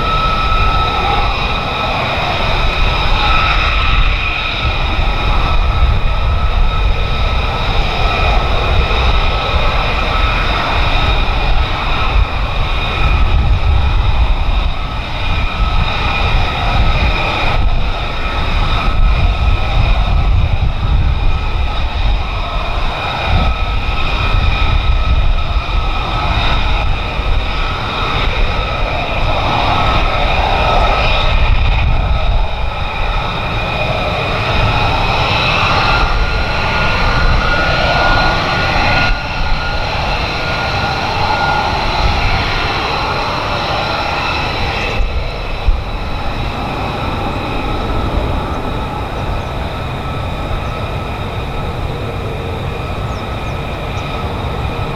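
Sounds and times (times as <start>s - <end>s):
fighter jet engine whine and rumble: 0.0s - 54.9s.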